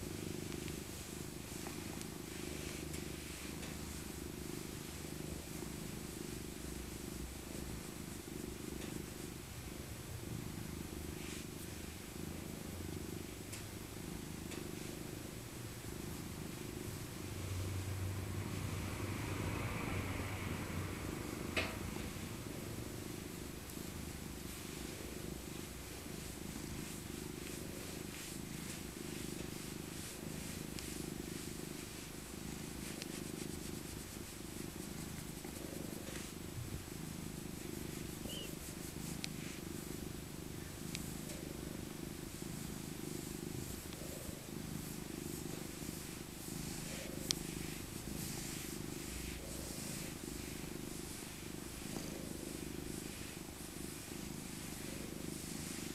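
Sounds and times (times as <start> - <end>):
cat purring: 0.0 - 55.9.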